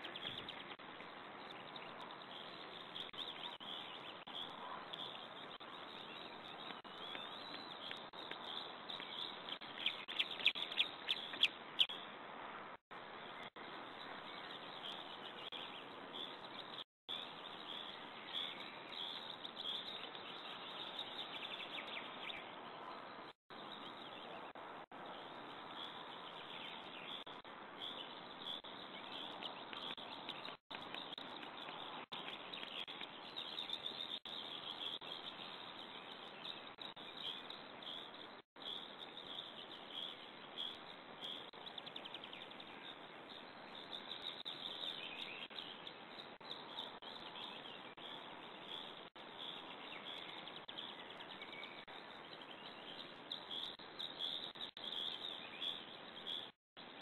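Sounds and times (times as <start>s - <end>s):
small birds chirping and singing: 0.0s - 12.1s, 13.1s - 57.0s.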